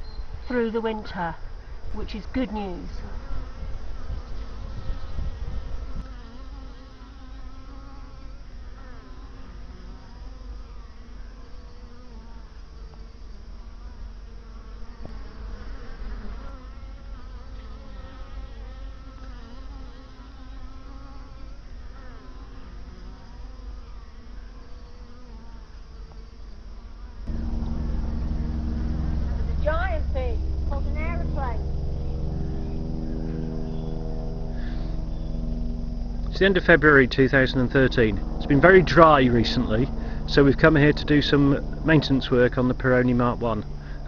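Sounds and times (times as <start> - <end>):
bees buzzing in flight: 0.0 - 44.0.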